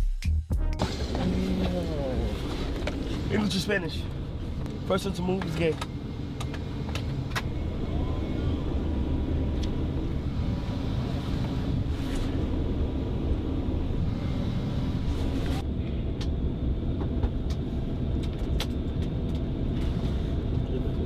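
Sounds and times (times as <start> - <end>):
jet cabin rumble: 0.8 - 21.0.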